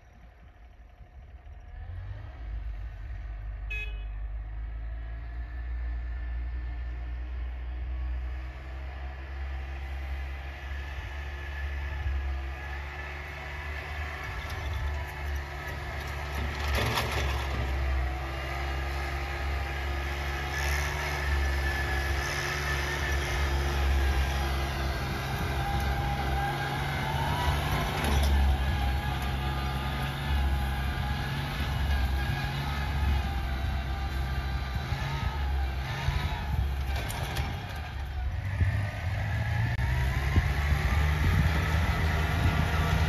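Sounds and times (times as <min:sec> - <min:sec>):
tractor engine droning: 0:00.0 - 0:43.0.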